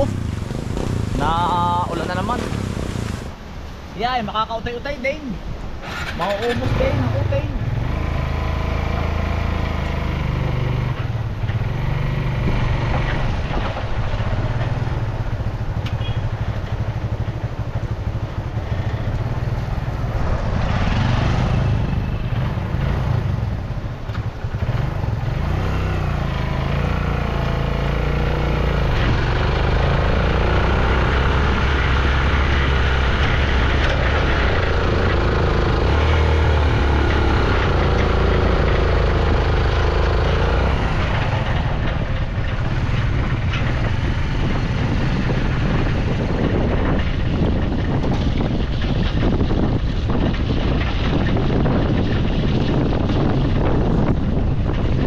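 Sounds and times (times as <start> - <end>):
motorcycle engine running: 5.9 - 55.0.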